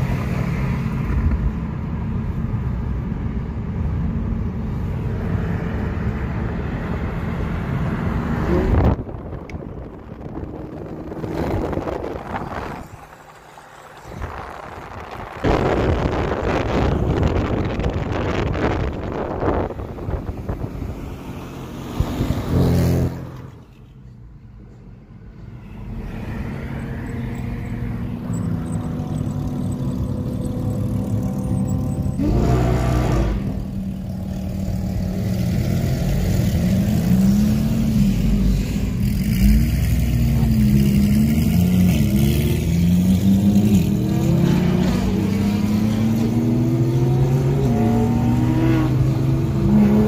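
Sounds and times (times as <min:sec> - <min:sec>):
car engines revving in traffic: 0:00.0 - 0:50.0.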